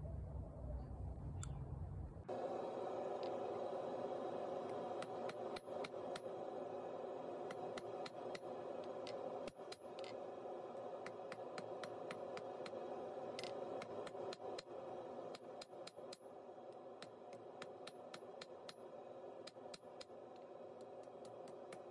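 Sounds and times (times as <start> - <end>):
steady rushing noise: 2.3 - 21.9.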